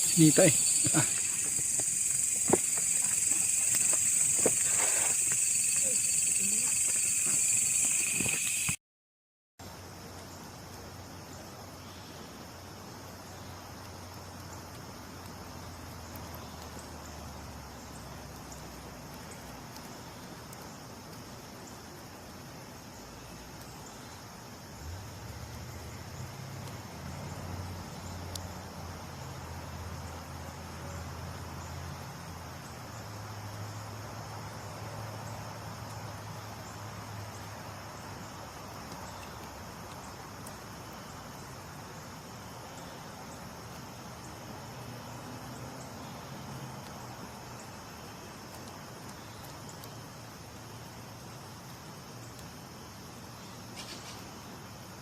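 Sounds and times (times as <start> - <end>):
night insects trilling: 0.0 - 8.8, 9.6 - 55.0.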